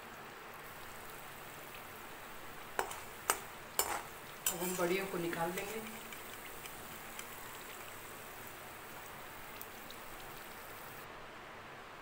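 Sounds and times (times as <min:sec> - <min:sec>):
hot oil sizzling: 0:00.0 - 0:11.1.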